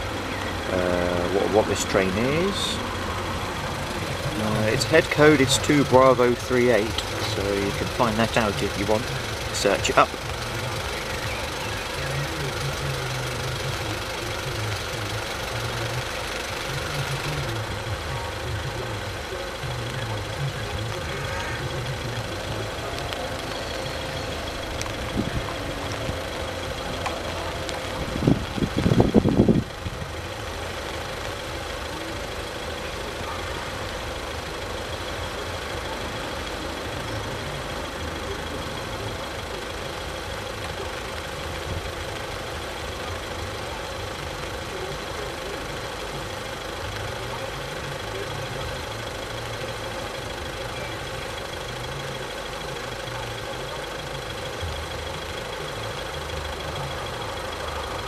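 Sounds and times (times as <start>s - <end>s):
cars idling: 0.0s - 58.0s.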